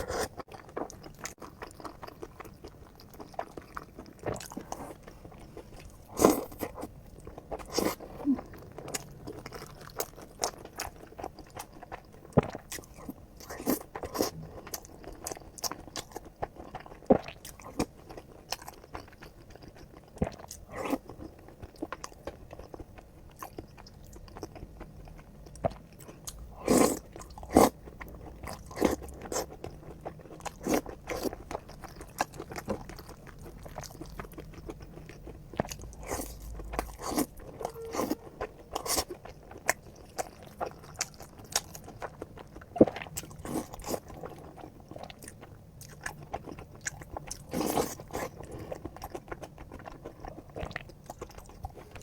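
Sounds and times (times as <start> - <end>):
person chewing crunchy food: 0.0 - 52.0.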